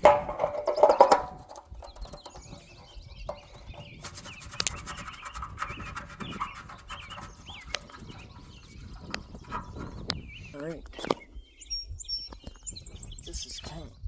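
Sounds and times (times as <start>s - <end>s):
handling clicks and scrapes: 0.0s - 11.3s
small birds chirping: 0.0s - 14.0s.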